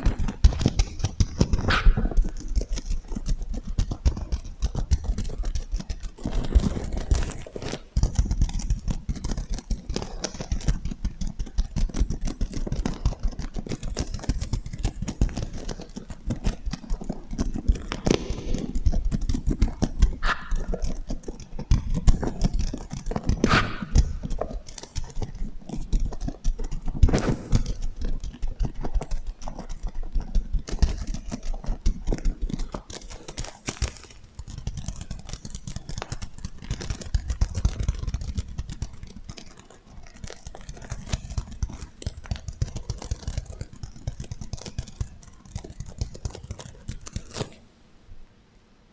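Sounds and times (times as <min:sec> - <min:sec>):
fingers scratching sequin pillow: 0:00.0 - 0:47.7.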